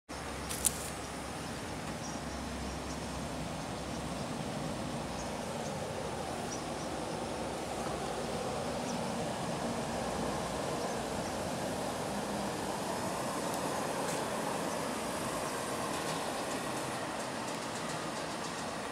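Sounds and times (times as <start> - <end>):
heavy trucks approaching: 0.1 - 18.9.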